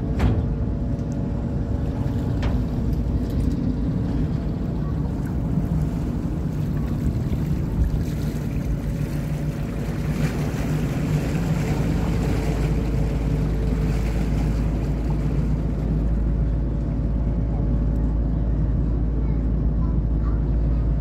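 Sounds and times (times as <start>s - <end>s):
wind rumbling on microphone: 0.0s - 17.6s
boat engine running: 0.0s - 21.0s.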